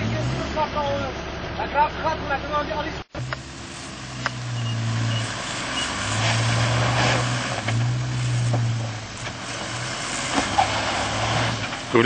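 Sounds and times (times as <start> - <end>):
vehicle engine at low revs: 0.0 - 12.0.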